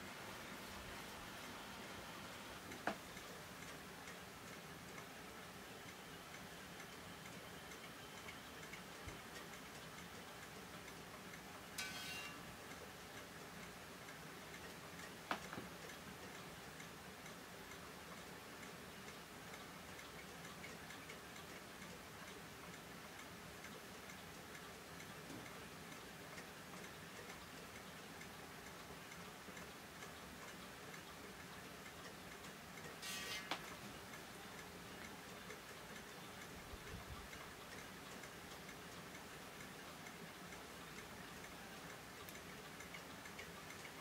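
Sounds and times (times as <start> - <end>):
faint steady ticking: 0.0 - 44.0.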